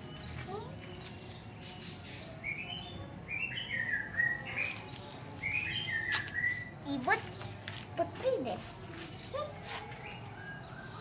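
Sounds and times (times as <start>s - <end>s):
small bird singing: 0.0s - 11.0s.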